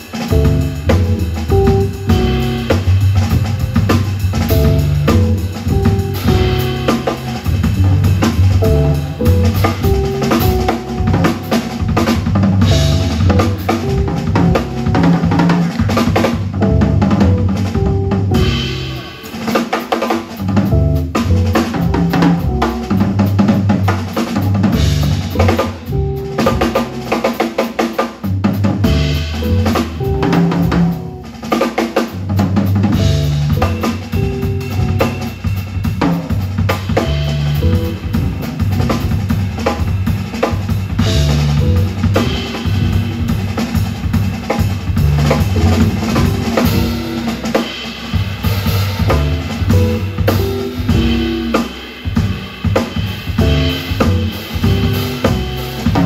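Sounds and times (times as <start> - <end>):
drum kit: 0.0 - 56.0
upright bass: 0.0 - 56.0.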